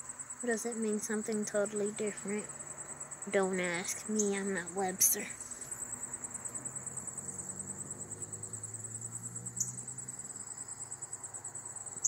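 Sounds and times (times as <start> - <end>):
faint low hum: 0.0 - 12.0
insects chirping: 0.0 - 12.0.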